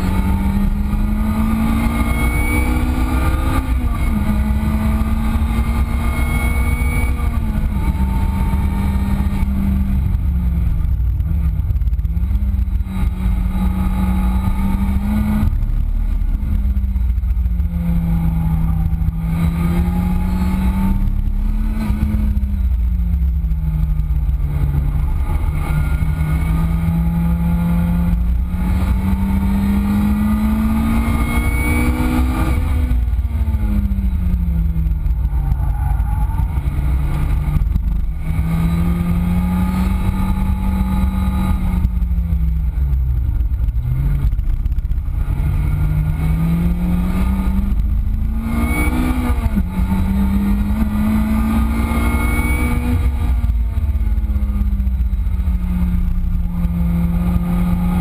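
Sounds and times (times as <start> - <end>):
car engine revving through gears: 0.0 - 58.0
wind and road noise rumble: 0.0 - 58.0.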